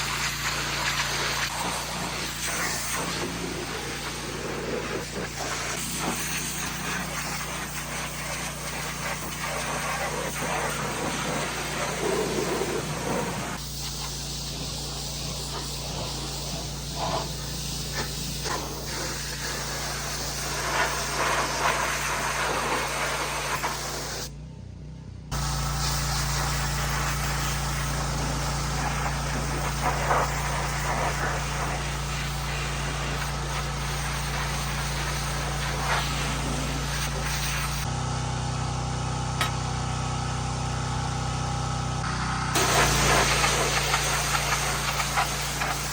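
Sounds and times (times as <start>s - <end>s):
pressure washer spraying: 0.0s - 24.3s, 25.3s - 37.9s, 40.6s - 45.9s
engine running: 0.0s - 45.9s.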